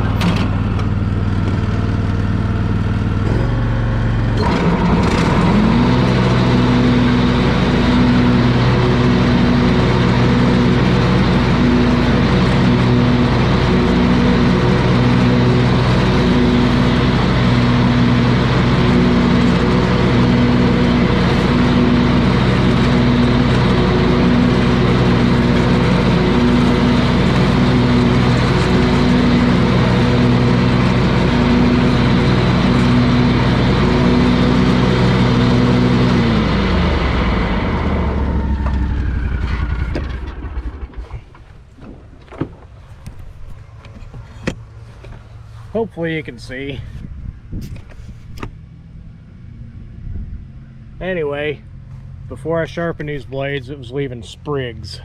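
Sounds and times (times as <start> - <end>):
mower clunk: 0.0 - 46.0
mower engine running: 0.0 - 55.0.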